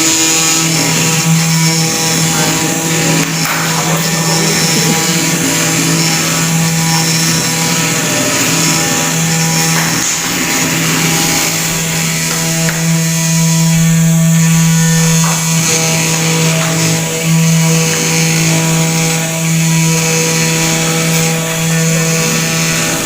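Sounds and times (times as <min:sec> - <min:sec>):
milling machine motor hum: 0:00.0 - 0:23.0.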